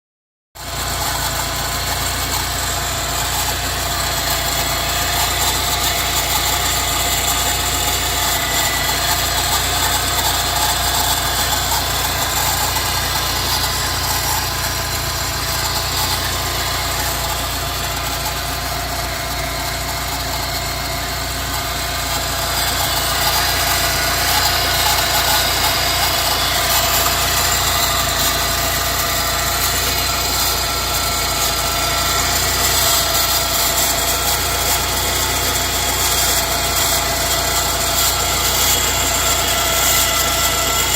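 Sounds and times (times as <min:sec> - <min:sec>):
car engine idling: 0:00.6 - 0:40.9.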